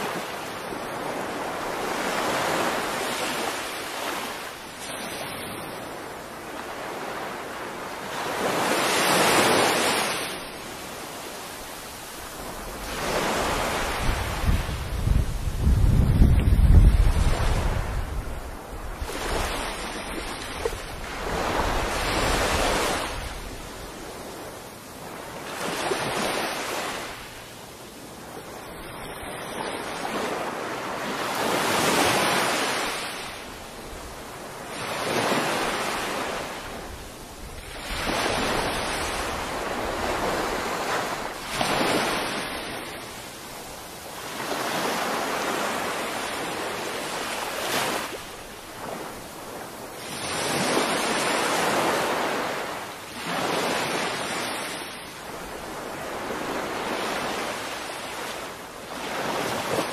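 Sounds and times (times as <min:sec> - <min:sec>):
small waves breaking on sand: 0:00.0 - 0:59.9.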